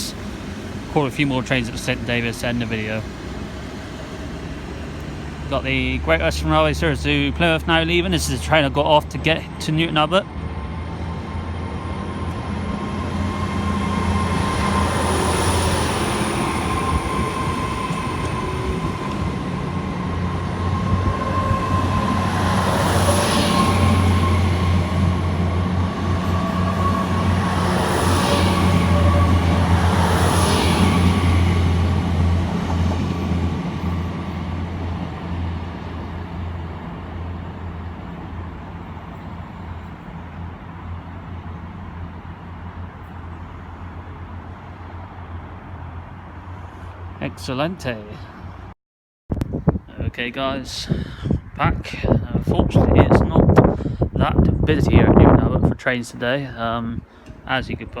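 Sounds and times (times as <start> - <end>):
diesel train engines humming: 0.0 - 48.7.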